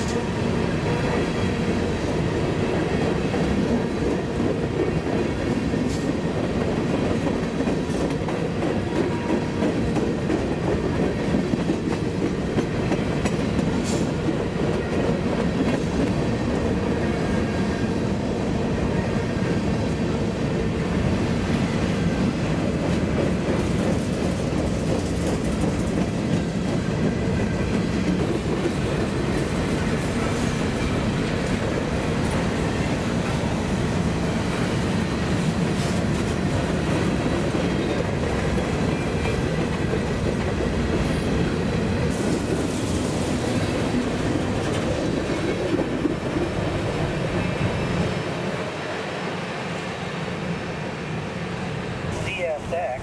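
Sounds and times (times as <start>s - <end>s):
freight train wheels rumbling on rail: 0.0s - 53.0s.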